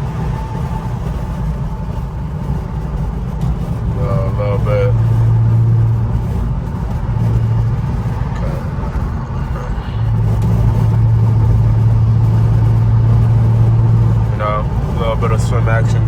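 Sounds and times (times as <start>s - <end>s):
car exhaust drone: 0.0s - 16.0s.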